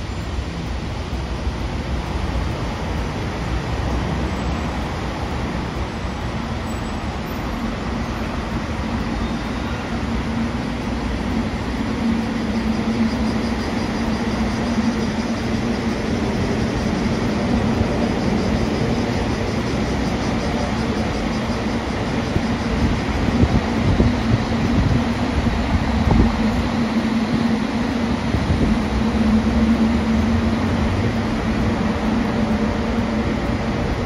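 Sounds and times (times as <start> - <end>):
low hum: 0.0 - 34.0
train rumbling: 0.0 - 34.0.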